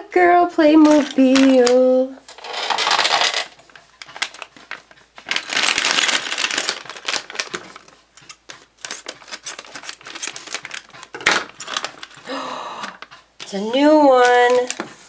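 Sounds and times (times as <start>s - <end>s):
plastic bag crinkling: 0.8s - 13.1s.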